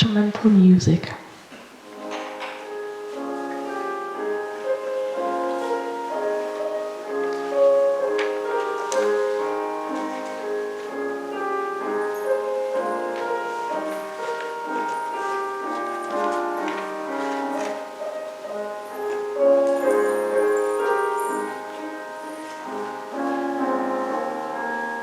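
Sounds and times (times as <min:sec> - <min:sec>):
slow keyboard melody: 0:01.4 - 0:25.0.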